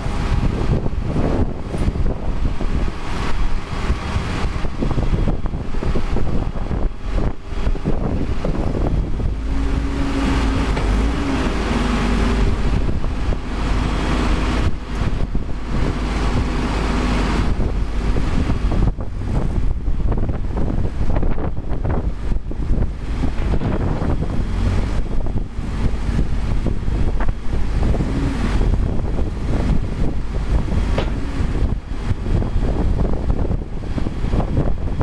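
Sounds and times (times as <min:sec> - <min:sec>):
diesel engine running: 0:00.0 - 0:35.0
wind rumbling on microphone: 0:00.0 - 0:35.0.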